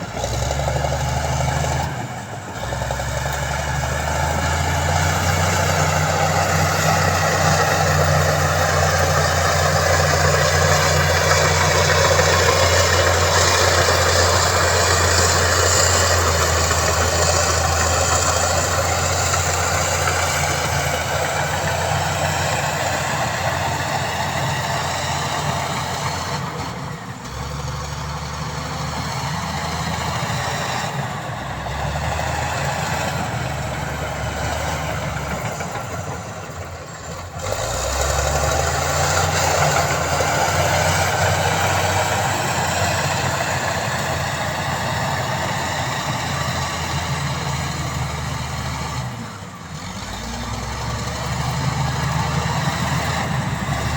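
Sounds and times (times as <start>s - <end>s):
heavy machinery diesel engine running: 0.0s - 53.9s.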